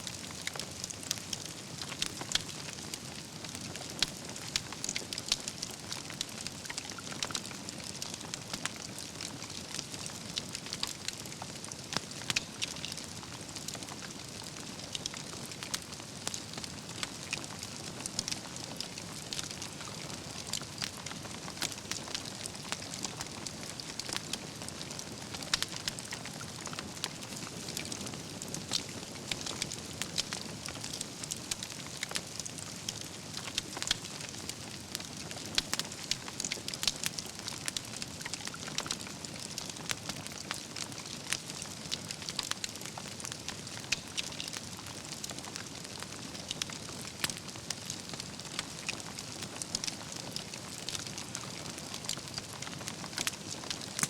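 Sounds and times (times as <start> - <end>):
burning logs crackling and popping: 0.0 - 54.0
wood fire hissing: 0.0 - 54.0.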